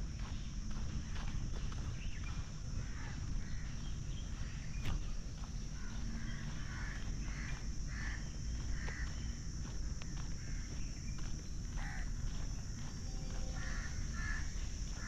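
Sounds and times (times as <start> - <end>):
footsteps on paved path: 0.0 - 15.0.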